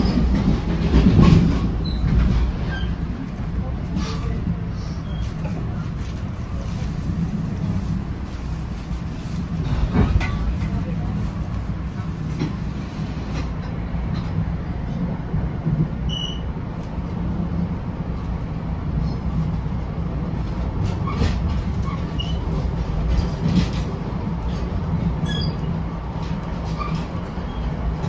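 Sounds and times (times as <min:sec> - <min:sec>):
train coach rumble: 0:00.0 - 0:28.0.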